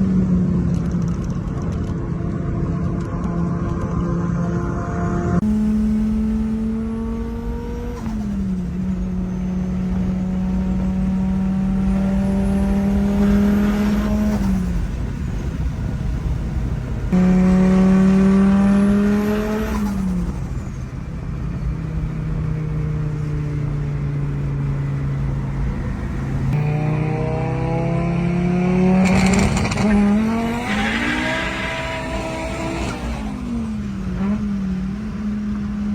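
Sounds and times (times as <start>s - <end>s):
car engine and exhaust: 0.0s - 35.9s.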